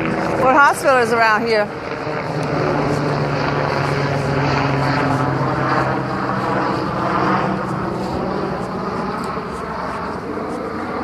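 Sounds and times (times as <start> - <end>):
helicopter flying overhead: 0.0 - 11.0.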